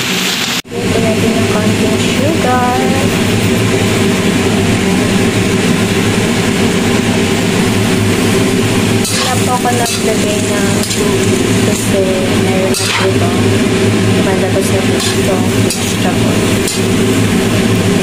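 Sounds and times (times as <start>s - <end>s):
low hum: 0.6s - 18.0s
spatula scraping wok: 1.8s - 18.0s.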